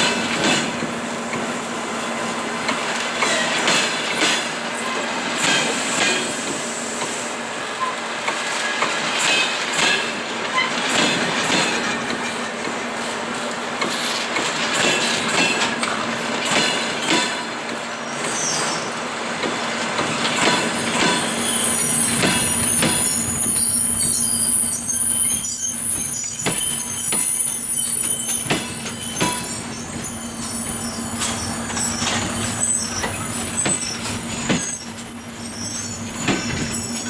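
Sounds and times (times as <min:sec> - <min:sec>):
train wheels clacking over rail joints: 0:00.0 - 0:01.6, 0:02.6 - 0:07.2, 0:07.8 - 0:35.0, 0:35.8 - 0:37.0
train brakes squealing: 0:03.2 - 0:37.0.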